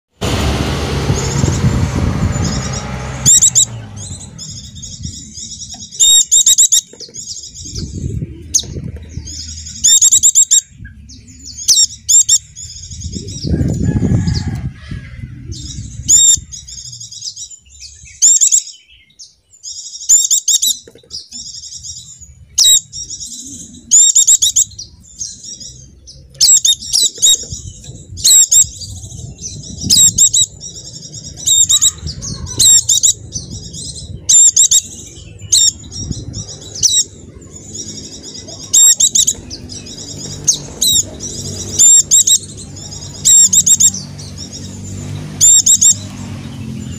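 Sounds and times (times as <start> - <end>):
low rumble: 0.2 - 6.2, 7.2 - 18.2, 24.7 - 46.9
bird twittering: 2.3 - 46.9.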